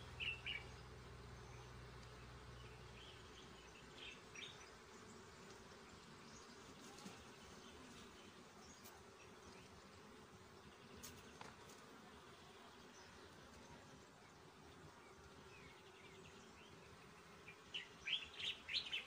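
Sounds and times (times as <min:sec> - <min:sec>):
honeybees humming: 0:00.0 - 0:19.0.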